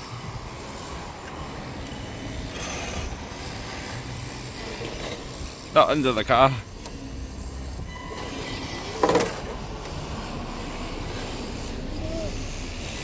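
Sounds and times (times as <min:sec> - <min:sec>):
rc car motor whine: 0:00.0 - 0:13.0.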